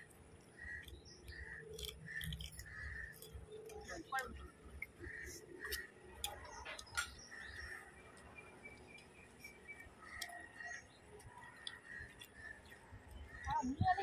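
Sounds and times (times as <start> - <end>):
soft clicks of eating by hand: 0.0 - 13.6
birds chirping: 0.0 - 14.0.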